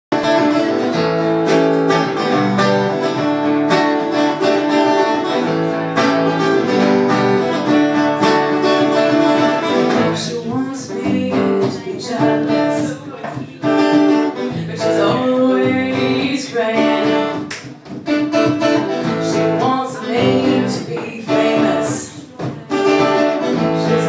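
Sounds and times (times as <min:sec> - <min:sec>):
acoustic guitars strumming: 0:00.1 - 0:24.0.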